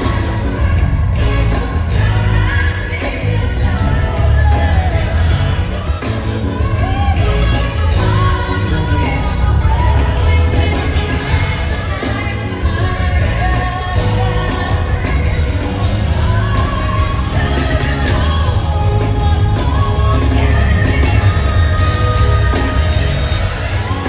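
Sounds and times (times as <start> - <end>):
backing singers: 0.0 - 24.0
band with heavy bass: 0.0 - 24.0
woman singing lead vocal: 0.0 - 24.0.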